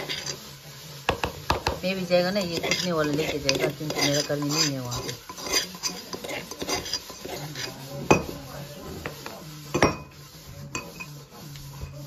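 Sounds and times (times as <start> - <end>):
metal spoon scraping and clinking: 0.0 - 12.0.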